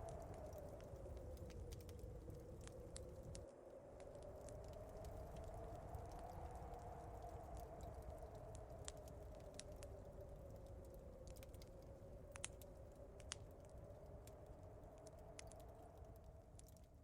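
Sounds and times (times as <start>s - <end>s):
fireplace crackling and popping: 0.0s - 17.0s.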